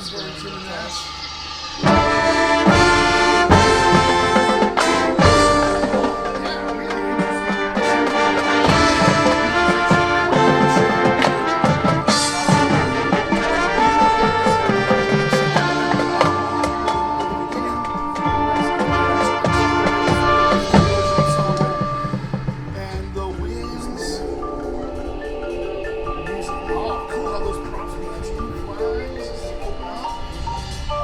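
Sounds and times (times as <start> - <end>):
drum and cymbal hits: 1.5 - 31.0
brass chords: 1.8 - 31.0.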